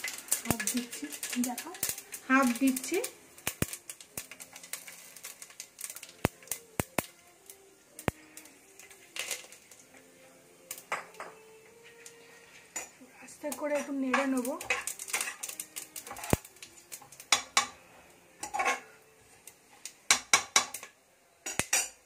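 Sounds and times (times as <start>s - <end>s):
sizzling hisses: 0.0s - 22.0s
spices crackling in hot oil: 0.0s - 22.0s.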